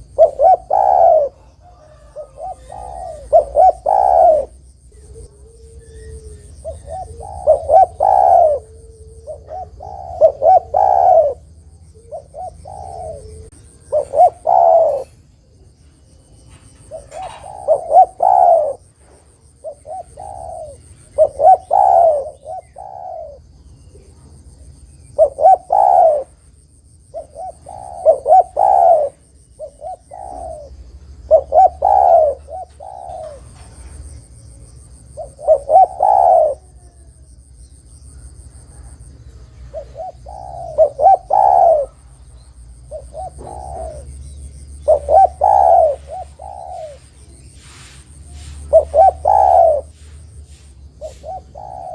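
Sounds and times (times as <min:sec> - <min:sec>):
dove cooing: 0:00.0 - 0:24.4, 0:25.0 - 0:26.4, 0:27.1 - 0:37.4, 0:38.2 - 0:51.9.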